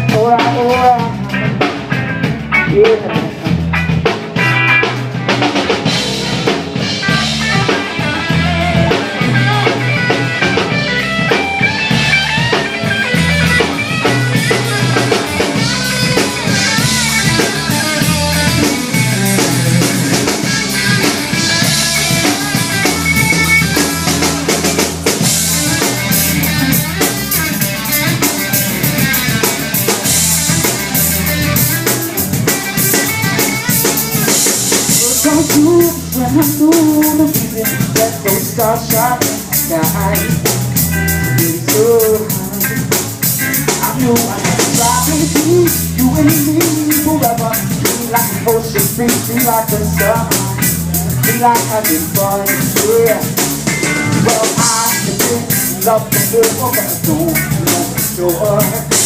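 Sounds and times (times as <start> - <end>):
drum kit steady beat: 0.0 - 59.0
reggae band playing: 0.0 - 59.0.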